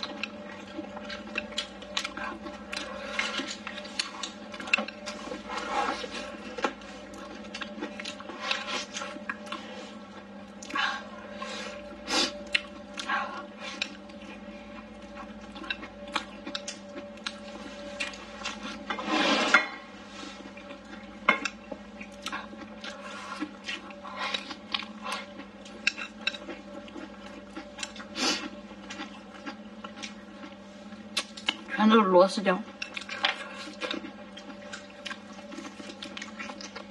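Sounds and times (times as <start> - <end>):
chewing food: 0.0 - 31.9, 32.5 - 36.9.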